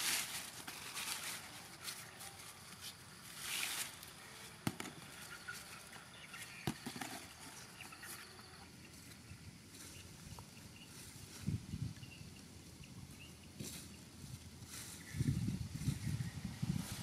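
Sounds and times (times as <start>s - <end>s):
rustling vines and leaves: 0.0s - 17.0s.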